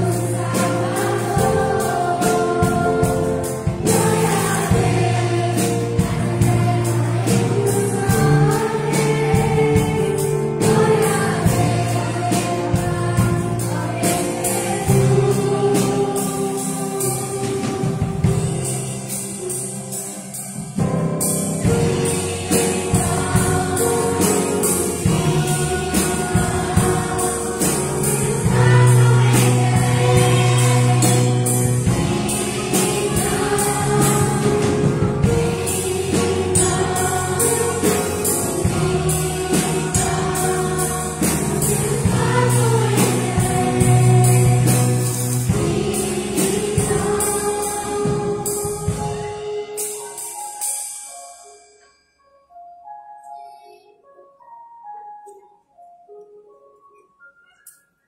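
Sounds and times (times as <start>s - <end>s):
children's choir singing: 0.0s - 50.6s
band with bass and drums: 0.0s - 51.1s.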